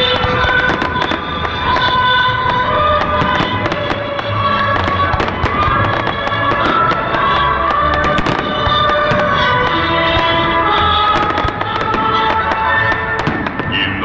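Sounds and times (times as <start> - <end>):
fireworks bursting and crackling: 0.0 - 14.0
loud instrumental music: 0.0 - 14.0.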